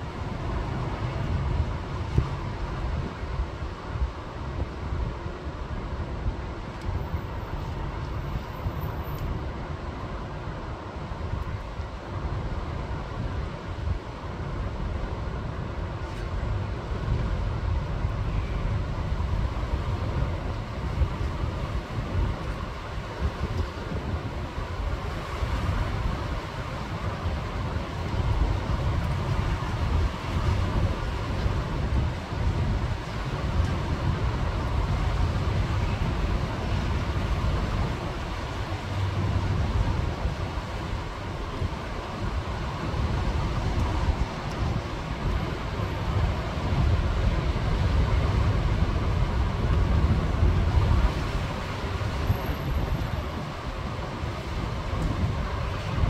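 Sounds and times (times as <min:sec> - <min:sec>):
gusty wind buffeting microphone: 0:00.0 - 0:56.0.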